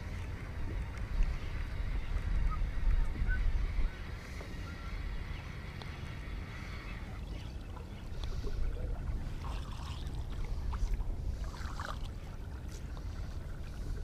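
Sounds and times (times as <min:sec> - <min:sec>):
low rumble of wind and water: 0:00.0 - 0:14.0.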